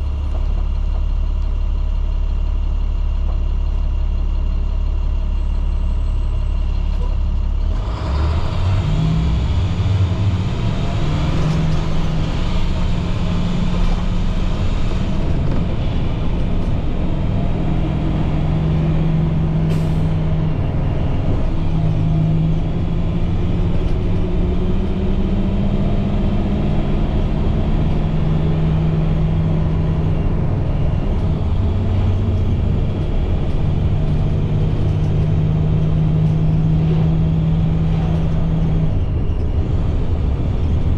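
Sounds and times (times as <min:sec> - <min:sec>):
diesel bus engine running: 0:00.0 - 0:40.9.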